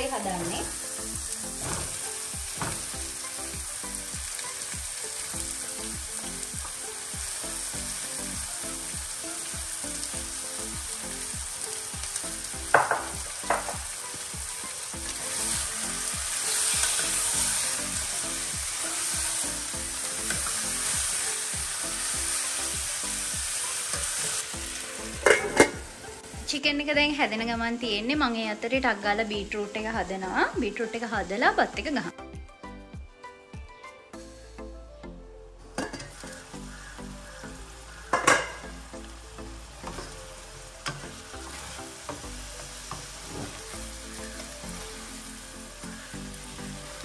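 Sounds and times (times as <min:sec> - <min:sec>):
chicken sizzling in a pan: 0:00.0 - 0:26.8, 0:35.8 - 0:47.0.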